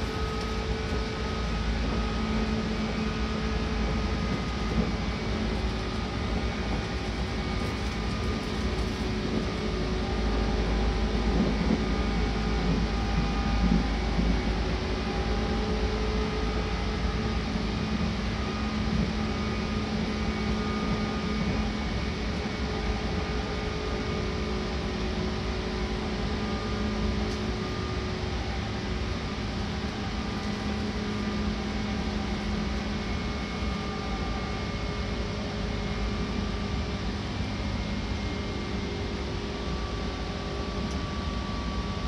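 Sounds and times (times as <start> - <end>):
train rumble from inside: 0.0 - 42.0.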